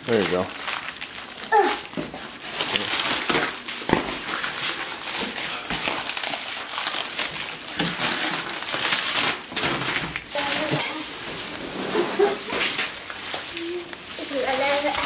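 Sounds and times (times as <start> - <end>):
plastic wrap crinkling: 0.0 - 15.0.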